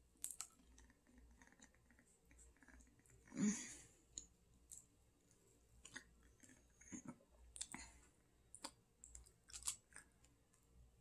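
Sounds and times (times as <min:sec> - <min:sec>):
faint chewing and mouth clicks: 0:00.0 - 0:10.9.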